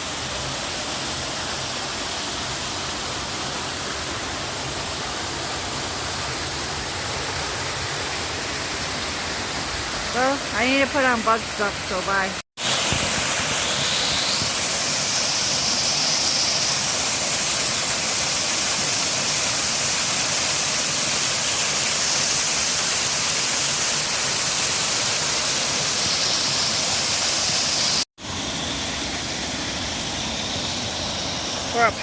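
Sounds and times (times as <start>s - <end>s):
brook water cascading: 0.0s - 32.0s
waterfall rushing: 0.0s - 32.0s.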